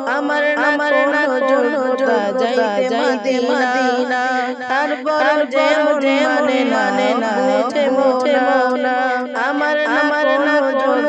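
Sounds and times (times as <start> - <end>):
boy singing devotional song: 0.0 - 11.0.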